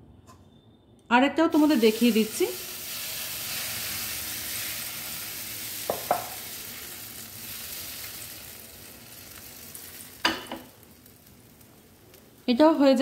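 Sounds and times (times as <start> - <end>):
batter sizzling in frying pan: 1.5 - 13.0.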